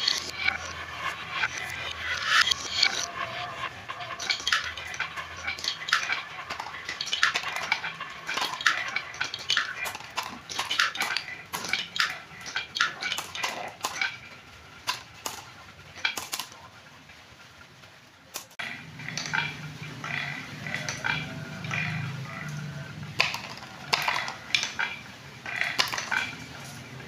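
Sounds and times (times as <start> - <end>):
marbles clattering on wood: 0.0 - 16.6, 18.4 - 27.0.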